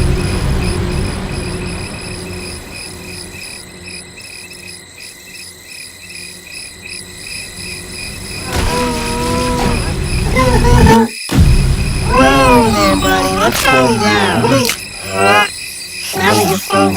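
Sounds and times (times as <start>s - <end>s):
crickets chirping: 0.0s - 16.9s.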